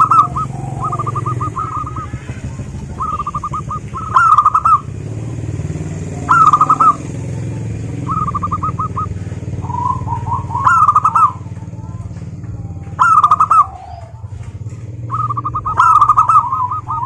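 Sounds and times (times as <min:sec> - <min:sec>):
dove cooing: 0:00.0 - 0:17.0
steady low hum: 0:00.0 - 0:17.0.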